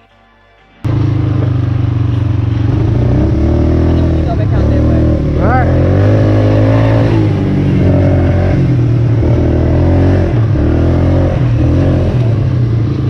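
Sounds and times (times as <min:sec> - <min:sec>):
quad bike engine running: 0:00.8 - 0:13.0.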